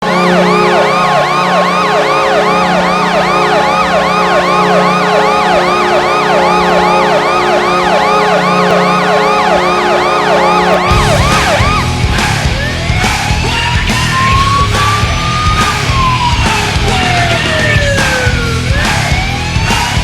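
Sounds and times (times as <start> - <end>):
goal horn chord: 0.0 - 16.3
electronic siren yelping: 0.0 - 20.0.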